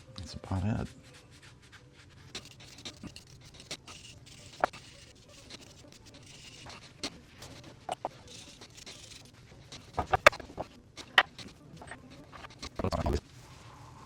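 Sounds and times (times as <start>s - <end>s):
rubbing and scraping: 1.0s - 13.7s.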